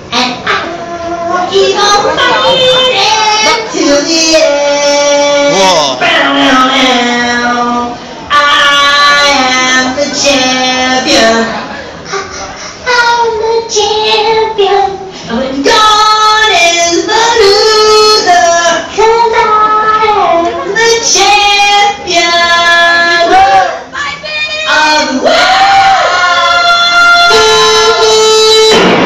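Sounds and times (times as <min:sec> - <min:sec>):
high bright voice singing: 0:00.0 - 0:28.8.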